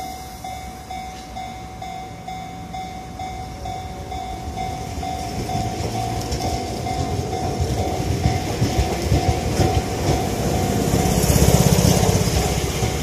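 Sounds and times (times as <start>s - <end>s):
electric train wheel and motor rumble: 0.0s - 13.0s
level-crossing warning bell ringing: 0.0s - 13.0s.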